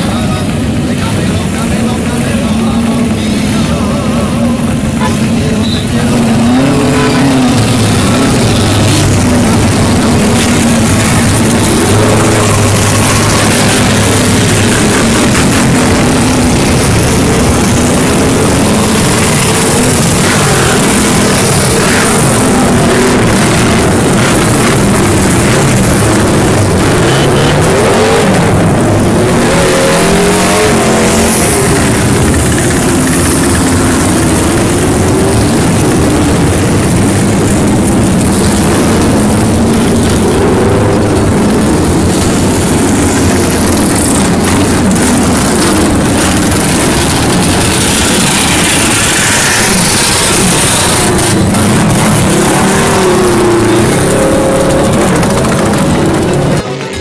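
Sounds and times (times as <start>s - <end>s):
motorcycle engines running: 0.0s - 57.0s
motorcycles revving: 0.0s - 57.0s.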